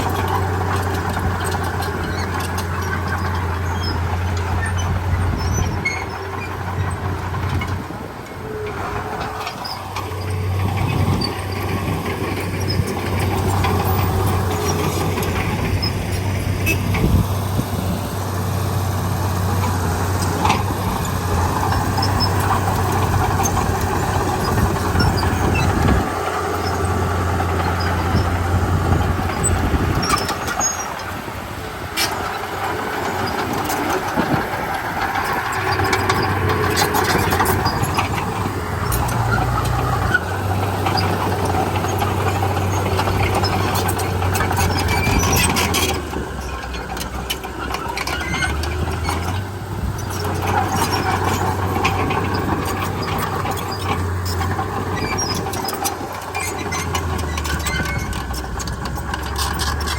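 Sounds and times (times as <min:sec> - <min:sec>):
bulldozer diesel engine droning: 0:00.0 - 0:59.9
tracks and blade squeaking clanking: 0:00.0 - 0:59.9.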